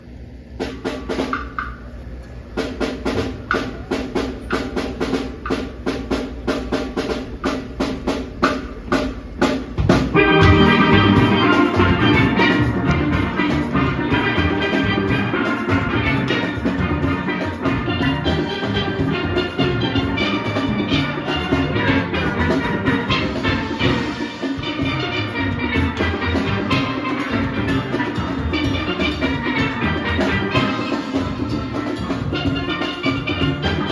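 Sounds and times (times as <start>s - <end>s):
steel pan band with drums: 0.0s - 33.9s.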